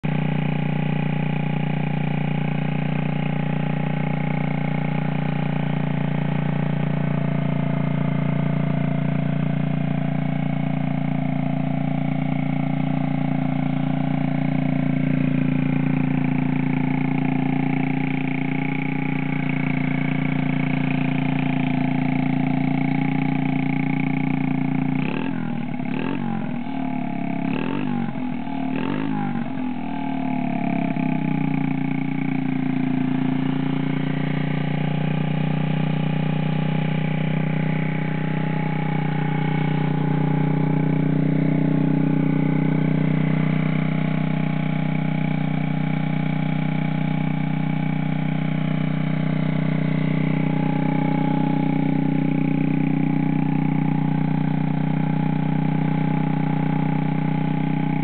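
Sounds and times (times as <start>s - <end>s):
engine throttle blips: 0.0s - 58.0s
motorcycle engine idling: 0.0s - 58.0s.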